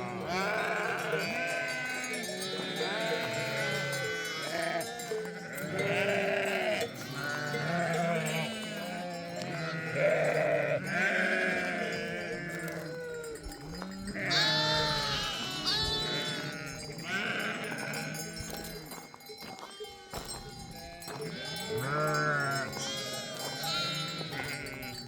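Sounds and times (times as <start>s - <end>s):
sheep bleating: 0.0s - 19.0s, 20.8s - 25.0s.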